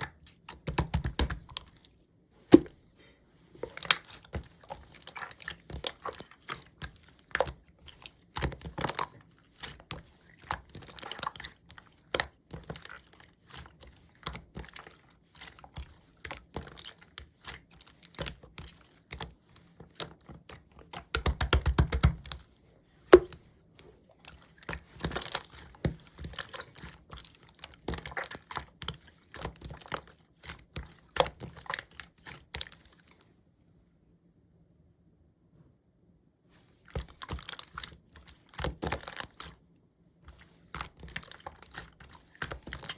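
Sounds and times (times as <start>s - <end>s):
slime squishing by hand: 0.0s - 33.3s, 36.7s - 42.9s.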